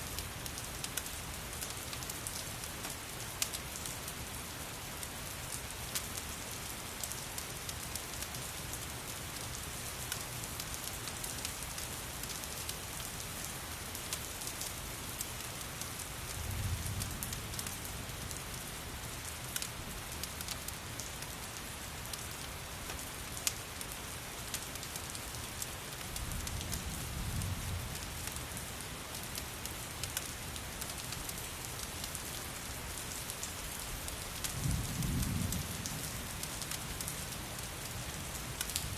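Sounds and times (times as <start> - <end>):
steady rain falling: 0.0 - 38.9
crackling wood fire: 0.1 - 38.9.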